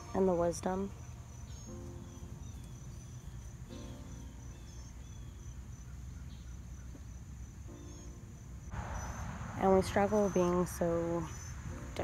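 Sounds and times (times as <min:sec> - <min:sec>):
soft background music: 0:00.0 - 0:08.8, 0:09.5 - 0:12.0
insect chorus: 0:00.0 - 0:12.0.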